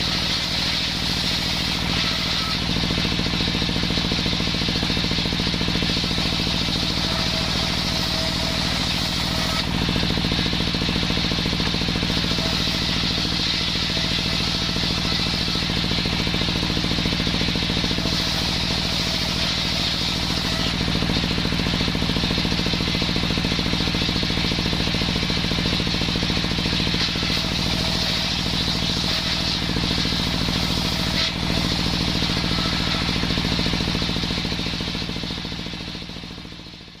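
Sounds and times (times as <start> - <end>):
saw engine pulsing: 0.0 - 36.9.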